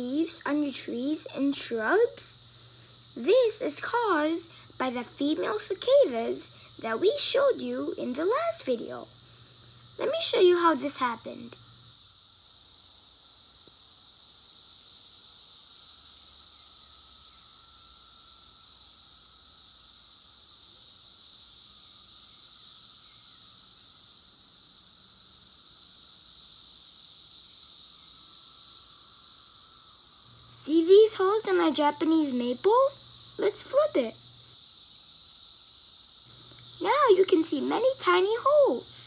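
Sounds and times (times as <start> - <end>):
cicadas droning: 0.0 - 39.0.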